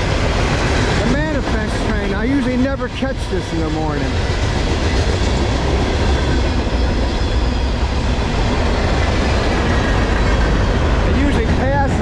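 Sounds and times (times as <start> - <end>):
freight train cars rolling: 0.0 - 12.0.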